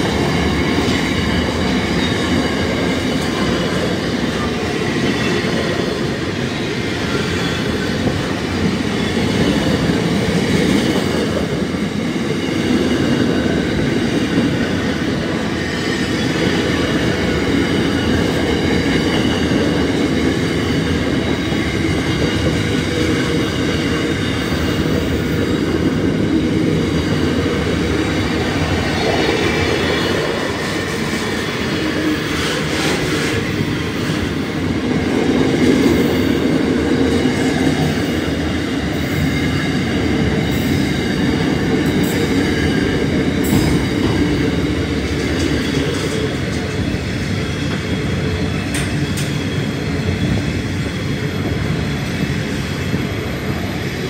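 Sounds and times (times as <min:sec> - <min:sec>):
freight train rumbling over rails: 0:00.0 - 0:54.0.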